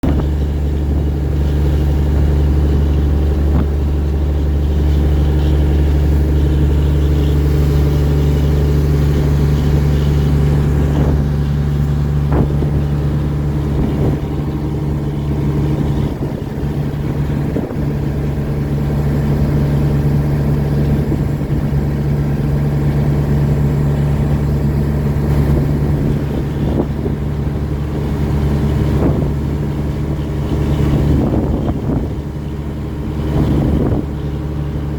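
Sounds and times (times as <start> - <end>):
boat diesel engine humming: 0.0 - 34.9.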